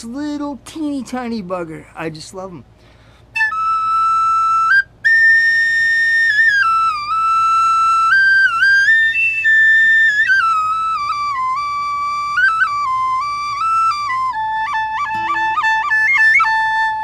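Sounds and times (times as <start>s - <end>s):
flute playing high melody: 3.4s - 17.0s.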